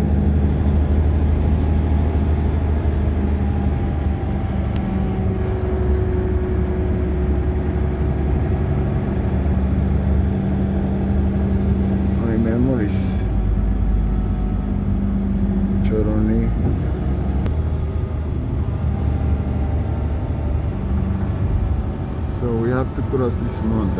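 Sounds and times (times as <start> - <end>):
bus engine and road drone: 0.0 - 23.9.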